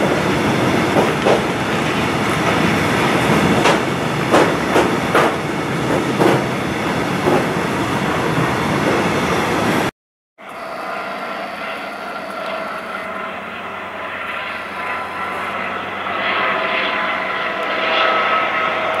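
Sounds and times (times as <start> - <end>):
helicopter flying overhead: 0.0 - 19.0.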